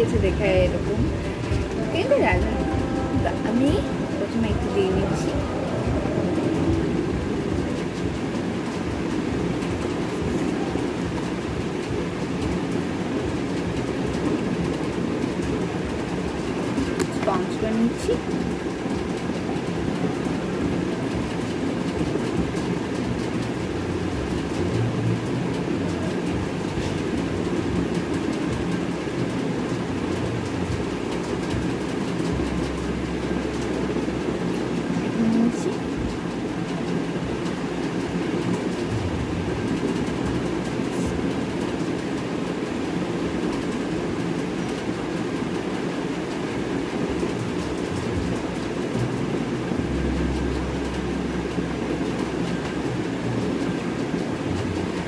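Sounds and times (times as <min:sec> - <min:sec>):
deep rushing background noise: 0:00.0 - 0:55.0
low hum: 0:00.0 - 0:55.0.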